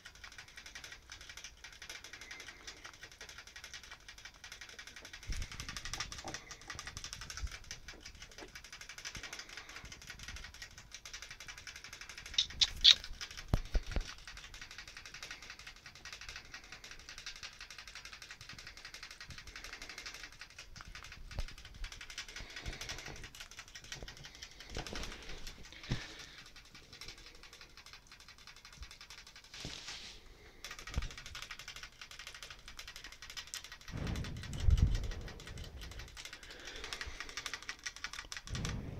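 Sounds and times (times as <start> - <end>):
rat ticking with teeth: 0.0 - 29.6, 30.3 - 38.9.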